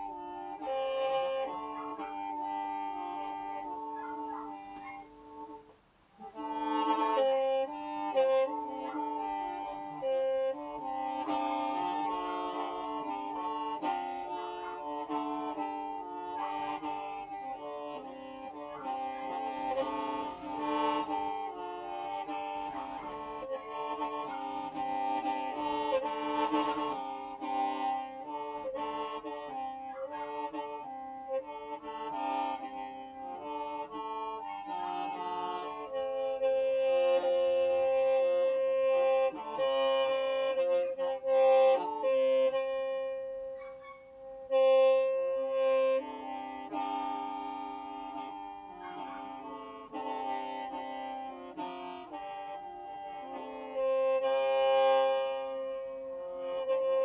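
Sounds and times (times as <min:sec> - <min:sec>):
bamboo mouth organ playing: 0:00.0 - 0:57.0.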